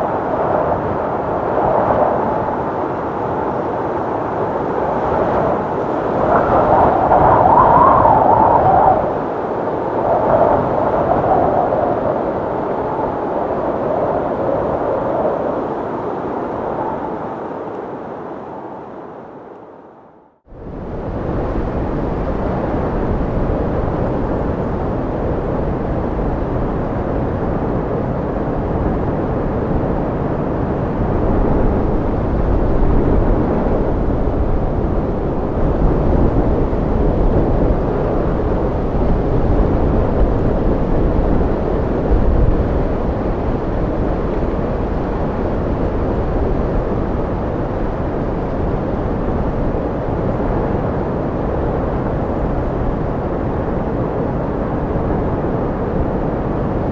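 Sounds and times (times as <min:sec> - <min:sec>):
deep steady wind: 0:00.0 - 0:56.9.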